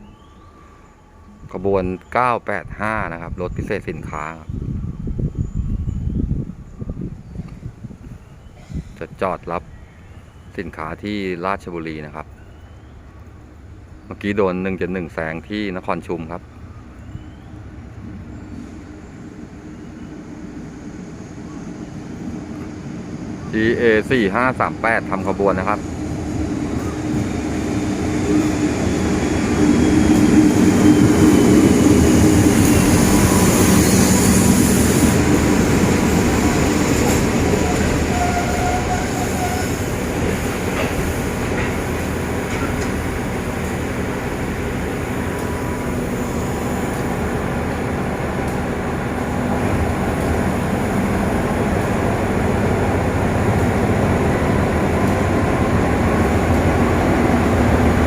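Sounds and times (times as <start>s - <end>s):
diesel locomotive drone: 0.0s - 8.6s, 11.6s - 58.0s.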